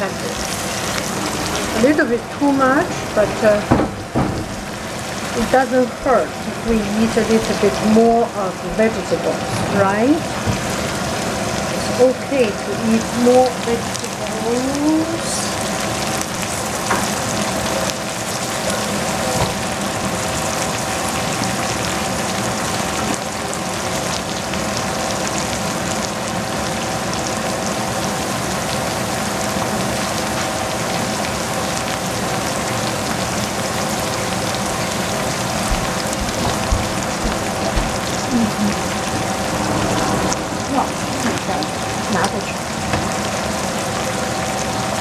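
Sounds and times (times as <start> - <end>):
cabbage sizzling in a saucepan: 0.0 - 39.9, 40.6 - 45.0.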